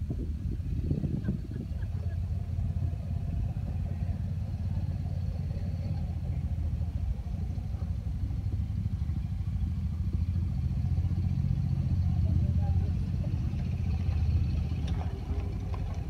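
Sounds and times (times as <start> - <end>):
utility vehicle engine rumble: 0.0 - 16.0.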